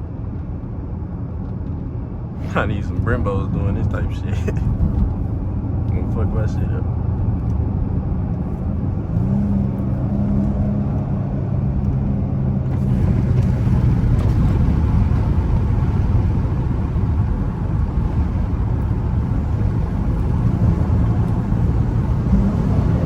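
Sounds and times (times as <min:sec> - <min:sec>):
car engine drone: 0:00.0 - 0:23.0
rushing air and road noise: 0:00.0 - 0:23.0.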